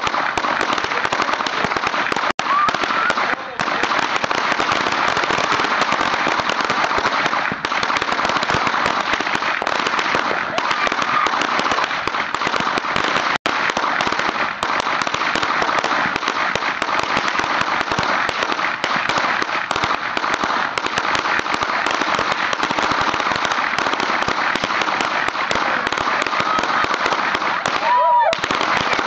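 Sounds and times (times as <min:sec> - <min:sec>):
firecrackers rapid bangs: 0:00.0 - 0:29.0.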